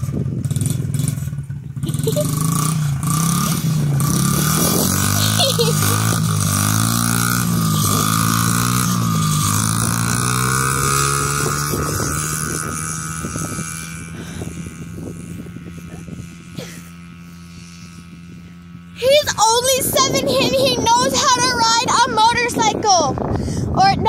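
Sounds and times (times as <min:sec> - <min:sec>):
dirt bike engine revving: 0:00.0 - 0:23.4.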